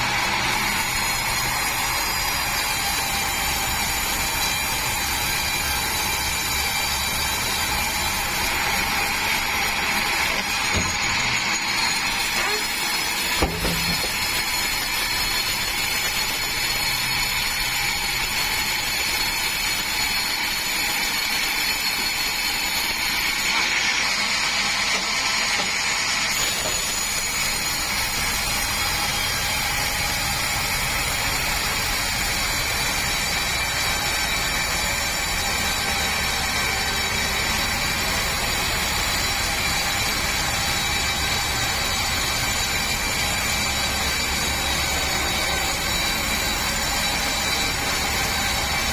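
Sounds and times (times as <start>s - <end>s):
sawmill machinery running: 0.0s - 48.9s.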